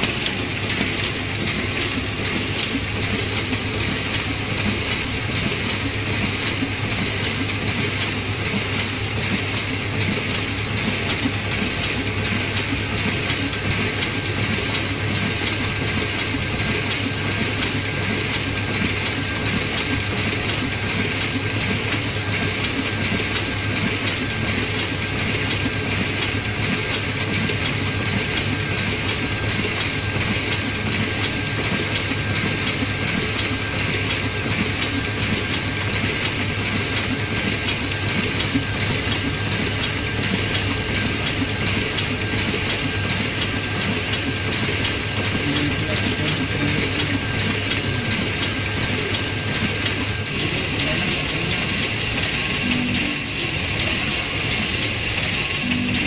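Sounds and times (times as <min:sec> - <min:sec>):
printing press running: 0:00.0 - 0:56.0.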